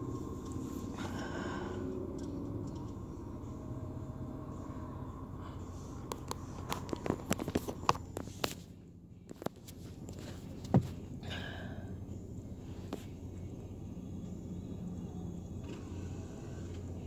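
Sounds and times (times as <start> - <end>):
car road rumble: 0.0 - 17.0.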